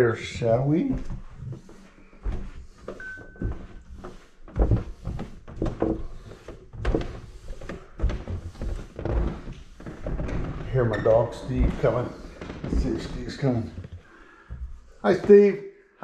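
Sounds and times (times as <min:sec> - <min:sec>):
heavy footsteps down stairs: 0:00.0 - 0:15.6.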